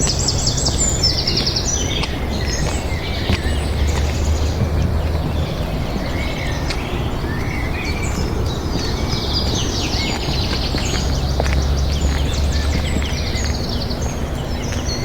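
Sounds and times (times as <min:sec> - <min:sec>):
small birds chirping and singing: 0:00.0 - 0:15.0.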